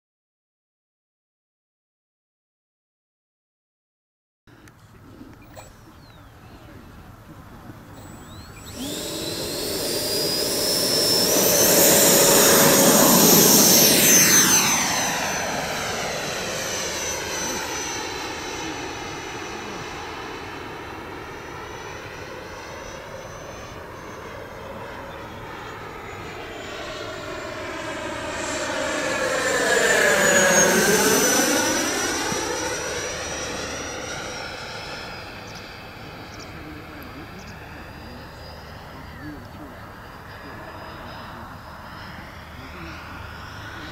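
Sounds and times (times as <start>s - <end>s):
electric ducted fan jet whining: 4.6s - 43.9s.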